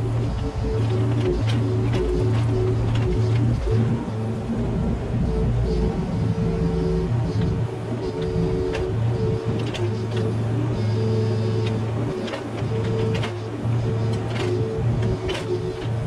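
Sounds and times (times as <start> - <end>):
excavator diesel engine under load: 0.0 - 16.0
hydraulic whine: 0.0 - 16.0.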